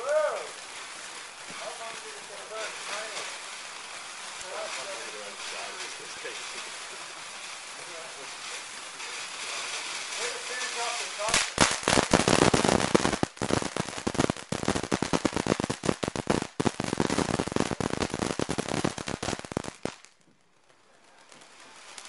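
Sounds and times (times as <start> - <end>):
firework crackling: 0.0 - 22.0.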